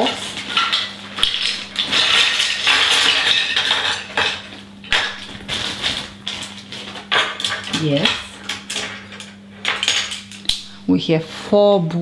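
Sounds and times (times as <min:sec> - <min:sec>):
plastic toy parts clattering: 0:00.0 - 0:10.6.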